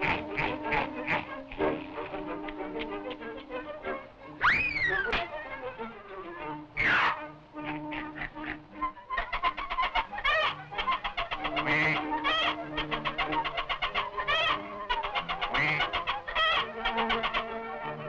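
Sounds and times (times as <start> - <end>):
cartoon chicken clucking: 0.0 - 5.3, 6.2 - 18.0
wavering squawk: 0.0 - 5.4, 6.4 - 18.0
low held music notes: 0.0 - 18.0.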